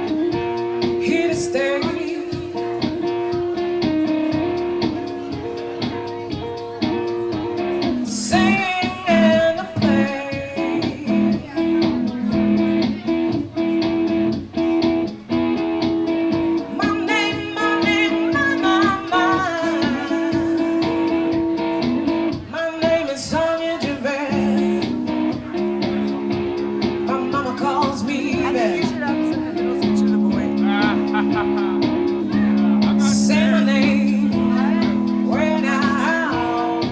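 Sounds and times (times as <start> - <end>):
person singing: 0.0 - 36.9
strummed guitar chords: 0.0 - 36.9.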